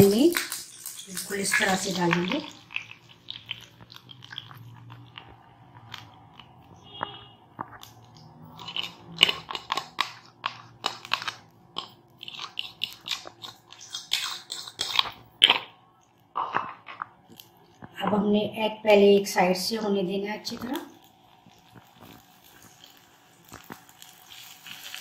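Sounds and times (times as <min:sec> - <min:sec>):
eggs sizzling in frying pan: 0:00.0 - 0:25.0.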